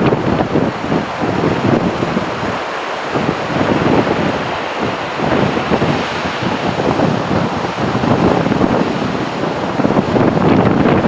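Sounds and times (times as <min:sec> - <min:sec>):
ocean surf breaking: 0:00.0 - 0:11.0
wind noise on microphone: 0:00.0 - 0:11.0.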